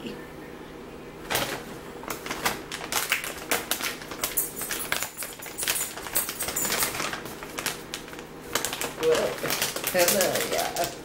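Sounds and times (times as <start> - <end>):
plastic pouch crinkling: 1.3 - 11.0.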